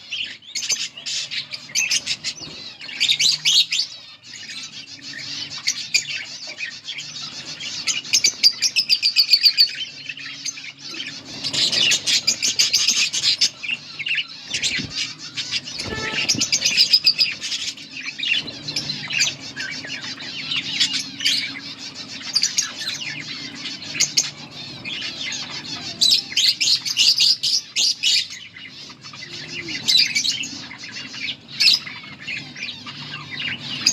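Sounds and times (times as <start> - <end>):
budgerigars chattering and chirping: 0.0 - 33.9.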